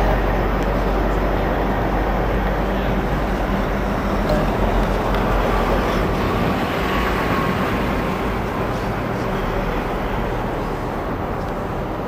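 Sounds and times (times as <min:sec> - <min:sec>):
road traffic: 0:00.0 - 0:12.0
truck engine and tyre noise: 0:00.0 - 0:12.0.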